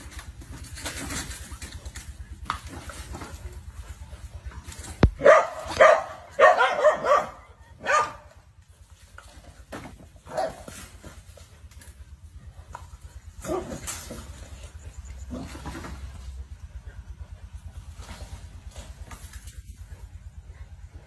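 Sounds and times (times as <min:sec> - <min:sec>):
dogs barking: 0:03.3 - 0:09.0, 0:09.6 - 0:21.0.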